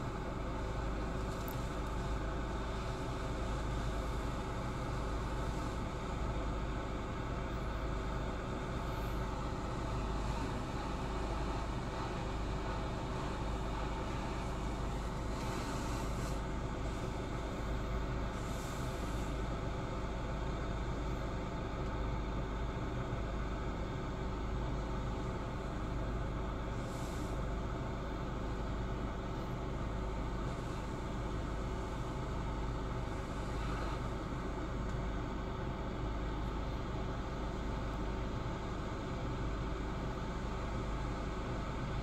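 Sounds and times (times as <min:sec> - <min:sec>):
car engine hum inside cabin: 0:00.0 - 0:42.0.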